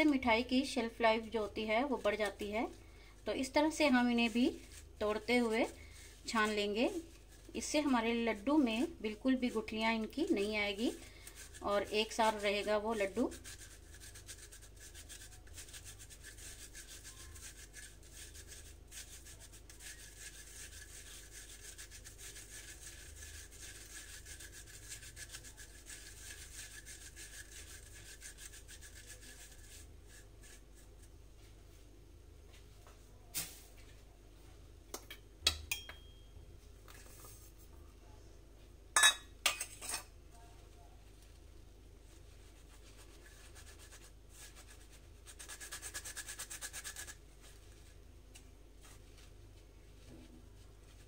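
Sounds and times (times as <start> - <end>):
sugar rubbed through wire strainer: 0.0 - 31.9, 39.0 - 51.0.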